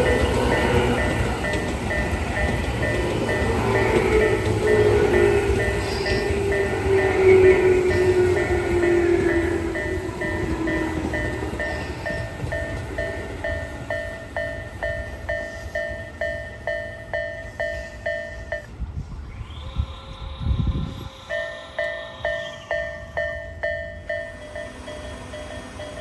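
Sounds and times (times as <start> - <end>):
level-crossing bell dinging: 0.0 - 18.8, 21.2 - 26.0
steady high tone: 0.0 - 26.0
train rumbling: 0.0 - 26.0.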